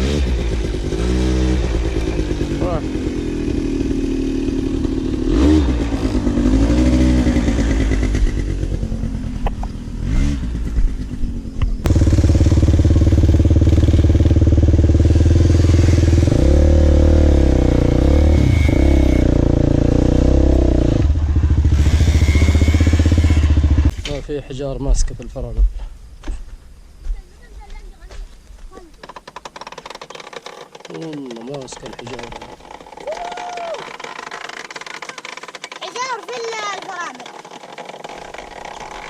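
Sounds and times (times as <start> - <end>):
off-road bike engine revving: 0.0 - 24.3, 29.0 - 39.0.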